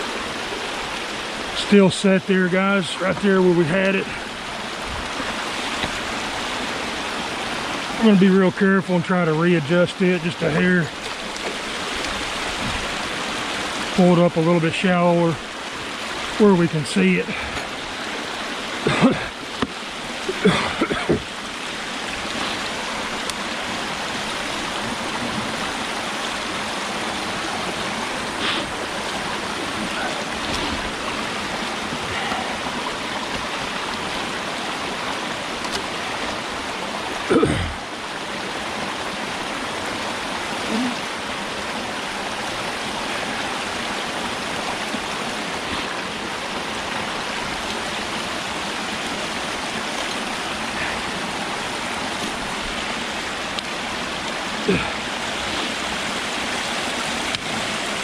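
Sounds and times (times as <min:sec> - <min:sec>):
knocks and splashes in water: 0:00.0 - 0:58.0
water rushing over a dam: 0:00.0 - 0:58.0.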